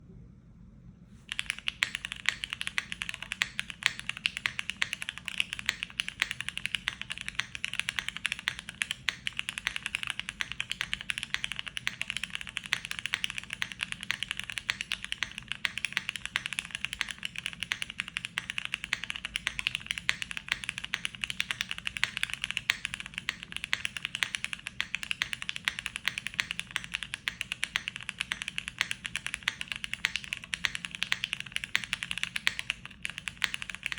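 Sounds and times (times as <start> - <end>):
mechanical keyboard typing: 1.3 - 33.9.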